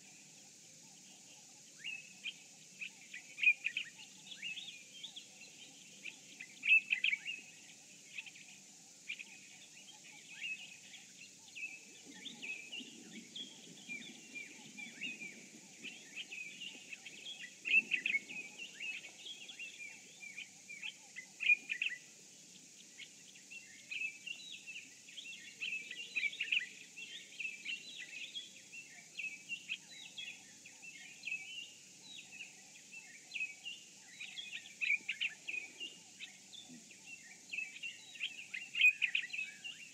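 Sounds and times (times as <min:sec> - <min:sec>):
faint high hiss: 0:00.0 - 0:39.9
small birds chirping and trilling: 0:00.0 - 0:39.9.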